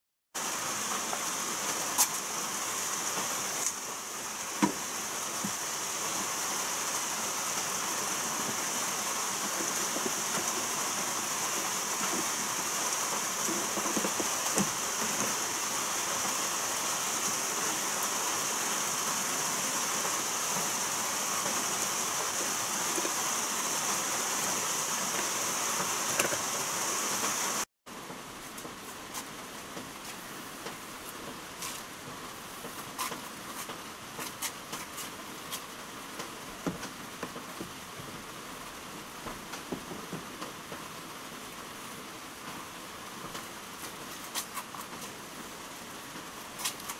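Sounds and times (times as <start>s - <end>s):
steady high-pitched hiss: 0.4s - 46.9s.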